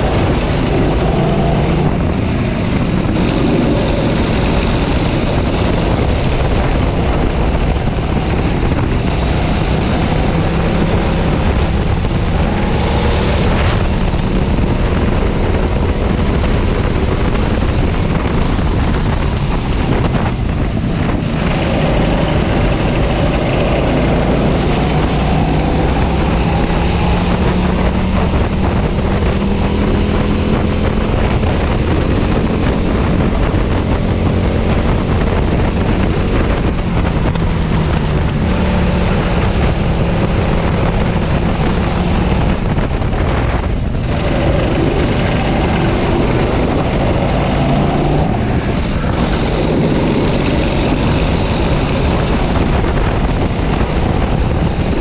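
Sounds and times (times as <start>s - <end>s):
racing kart engine: 0.0s - 55.0s
wind buffeting microphone: 0.0s - 55.0s.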